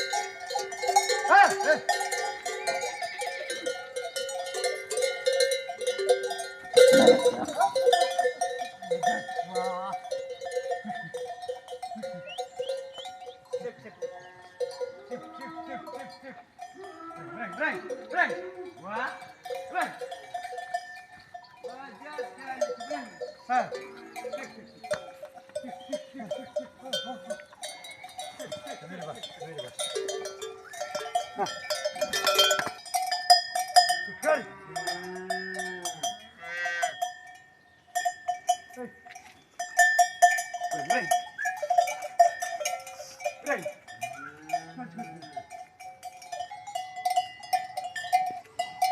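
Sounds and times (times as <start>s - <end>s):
cattle bells clanking: 0.0s - 48.9s.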